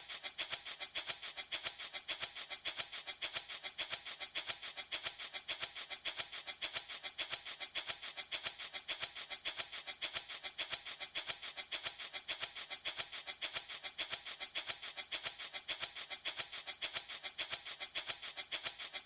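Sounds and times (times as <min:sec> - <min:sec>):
baby rattle shaken: 0:00.0 - 0:19.0.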